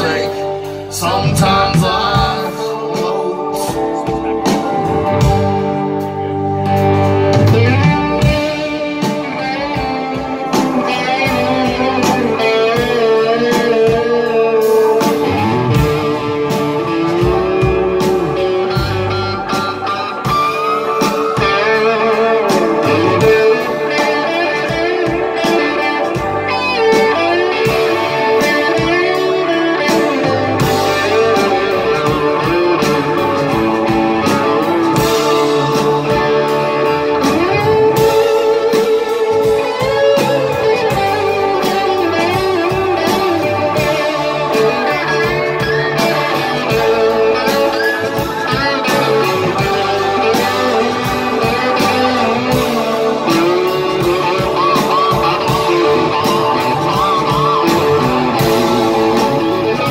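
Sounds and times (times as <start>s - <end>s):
lead guitar bending notes: 0.0s - 59.9s
live blues-rock band playing: 0.0s - 59.9s.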